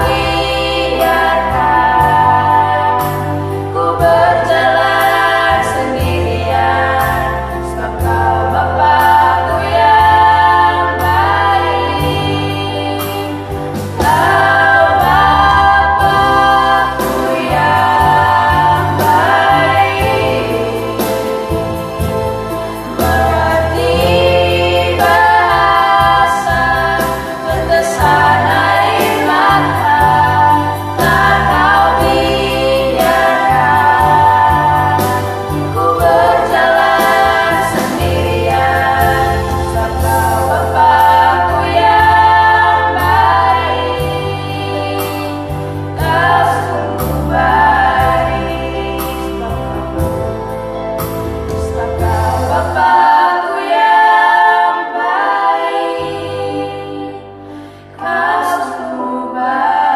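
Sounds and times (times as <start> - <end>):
children's choir singing: 0.0 - 50.3, 51.5 - 59.9
low held bass notes: 0.0 - 53.1
instrumental accompaniment: 0.0 - 59.9.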